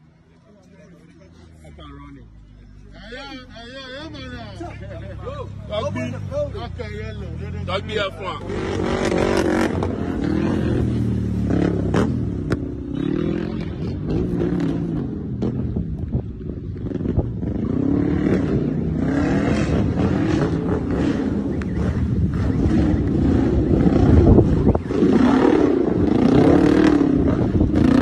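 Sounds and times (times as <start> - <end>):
vehicle engines revving: 0.0 - 28.0.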